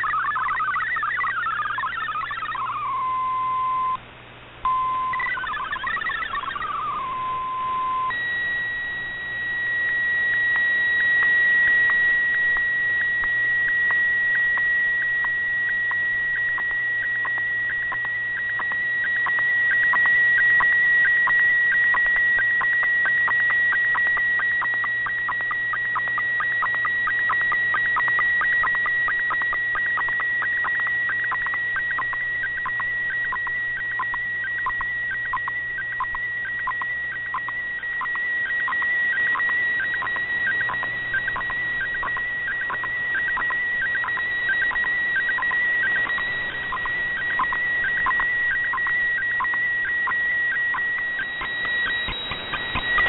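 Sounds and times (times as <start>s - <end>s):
steady high radio tone: 0.0s - 4.0s, 4.6s - 53.0s
warbling radio signal: 0.0s - 4.0s, 4.7s - 53.0s.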